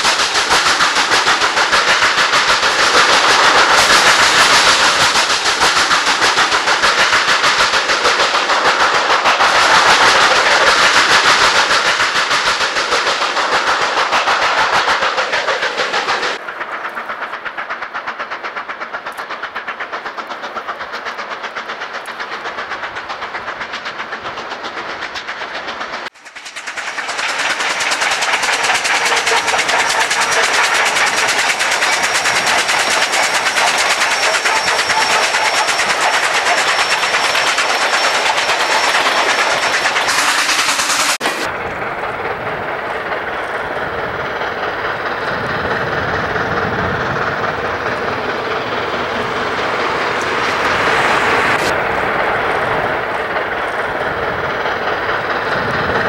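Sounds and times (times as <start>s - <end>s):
steam locomotive exhaust beat: 0.0s - 56.0s.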